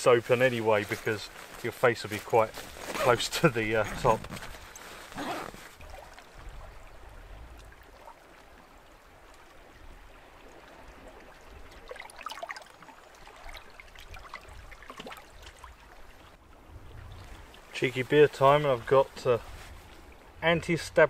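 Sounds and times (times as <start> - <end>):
gentle water washing: 0.0 - 20.4.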